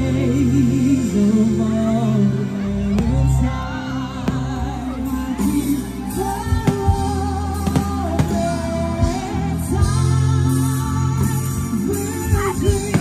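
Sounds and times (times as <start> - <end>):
person singing: 0.0 - 13.0
steady bass: 0.0 - 13.0.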